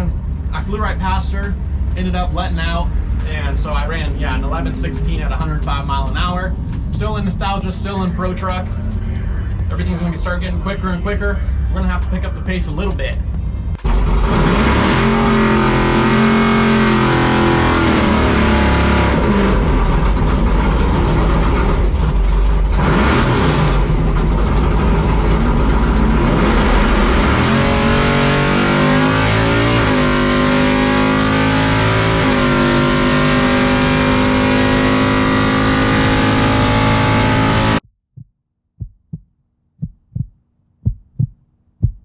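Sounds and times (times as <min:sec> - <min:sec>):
drag truck engine at full throttle: 0:00.0 - 0:37.8.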